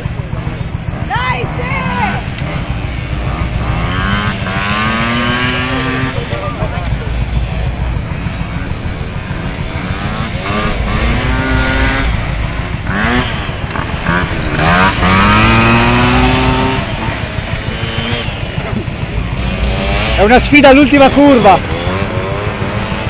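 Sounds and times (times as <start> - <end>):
moped and motorcycle engines racing: 0.0 - 23.0.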